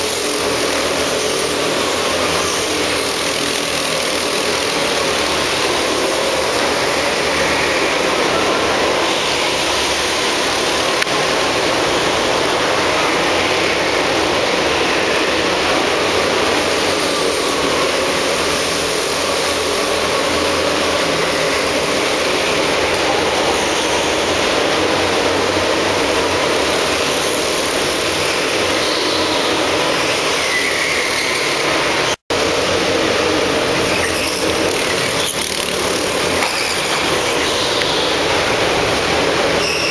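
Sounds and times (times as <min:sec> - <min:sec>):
go-kart engines running: 0:00.0 - 0:39.9.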